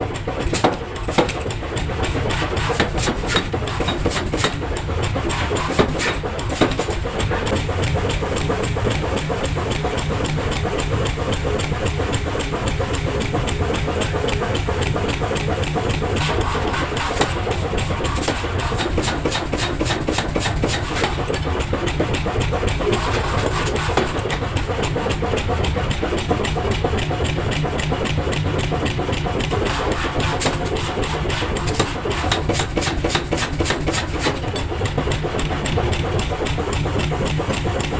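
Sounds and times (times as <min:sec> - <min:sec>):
machinery humming: 0:00.0 - 0:37.9.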